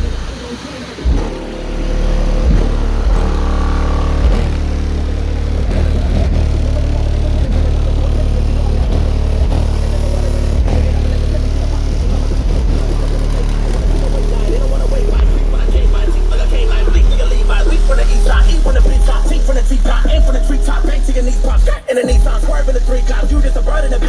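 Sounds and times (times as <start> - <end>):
rap music through subwoofers: 0.0 - 24.0.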